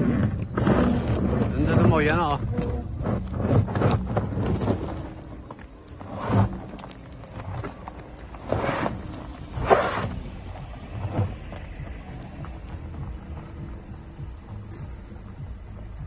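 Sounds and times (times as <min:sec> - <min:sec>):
low steady rumble: 0:00.0 - 0:16.0
tyres crunching over gravel: 0:00.0 - 0:16.0.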